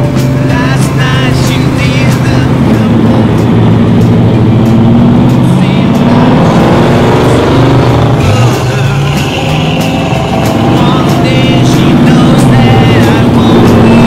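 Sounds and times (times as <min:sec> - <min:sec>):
car engines droning: 0:00.0 - 0:14.0.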